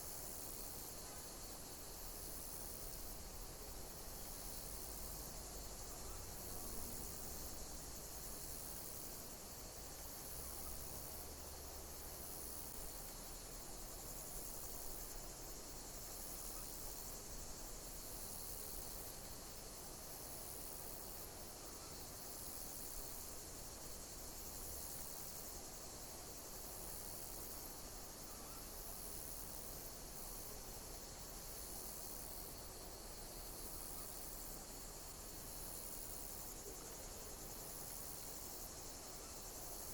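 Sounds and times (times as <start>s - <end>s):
constant hiss: 0.0s - 39.9s
insects chirping: 0.0s - 39.9s.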